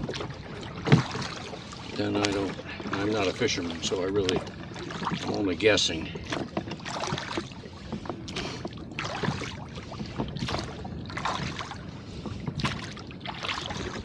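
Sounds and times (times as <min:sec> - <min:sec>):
rush of wind and water: 0:00.0 - 0:14.0
water slapping against hull: 0:00.0 - 0:14.0.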